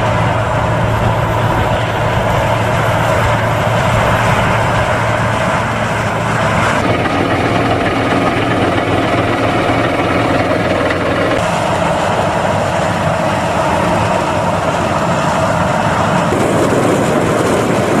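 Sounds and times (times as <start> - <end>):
tractor engine hum inside cab: 0.0 - 15.4
tractor engines running: 0.0 - 18.0.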